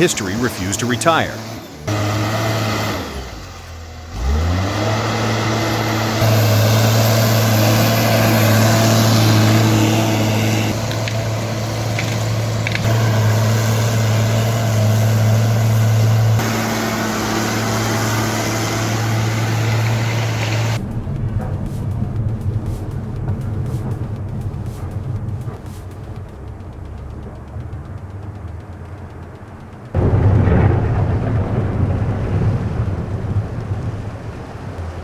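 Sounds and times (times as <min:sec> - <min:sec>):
heavy diesel engine droning: 0:00.0 - 0:35.0.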